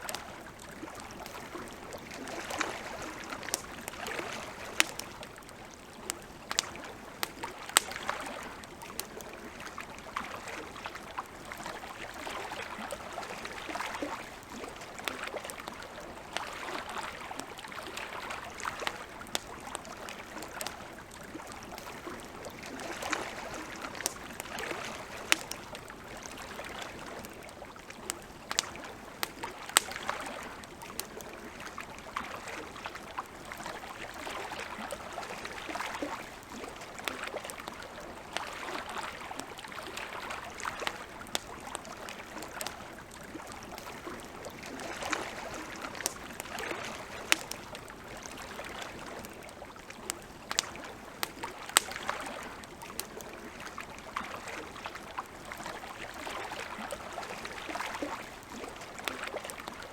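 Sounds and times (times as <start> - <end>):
campfire crackles and pops: 0.0 - 59.9.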